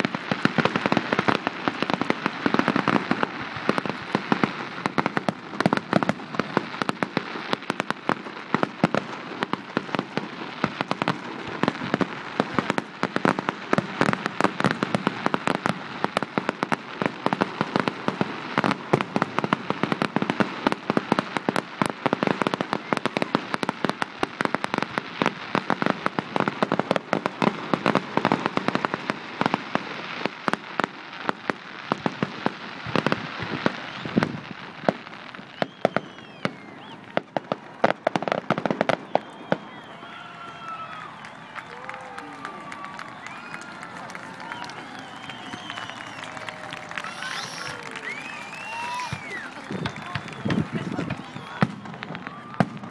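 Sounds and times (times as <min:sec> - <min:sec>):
fireworks cracking and popping: 0:00.0 - 0:52.9.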